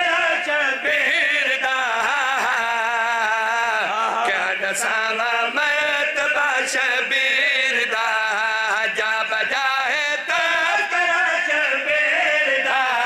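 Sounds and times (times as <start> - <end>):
man chanting through a microphone: 0.0 - 13.0.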